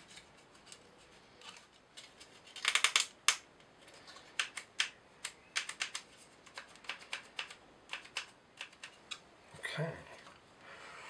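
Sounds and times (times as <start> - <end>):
wooden parts clicking: 0.1 - 9.2.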